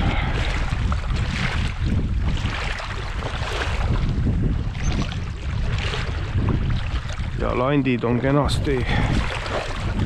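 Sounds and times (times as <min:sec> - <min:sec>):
sea water sloshing and lapping: 0:00.0 - 0:10.0
wind rumbling on microphone: 0:00.0 - 0:10.0.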